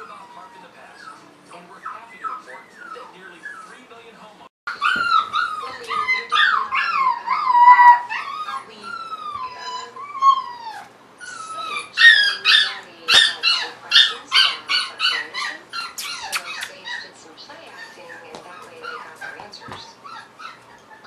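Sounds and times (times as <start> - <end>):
puppy yipping: 0.0 - 3.8, 4.7 - 17.2, 17.8 - 21.0
puppy whining: 0.0 - 3.9, 4.7 - 21.0.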